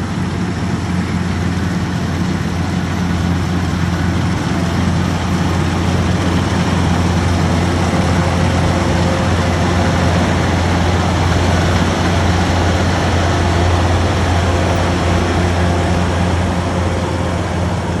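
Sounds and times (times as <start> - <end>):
combine harvester engine hum: 0.0 - 18.0.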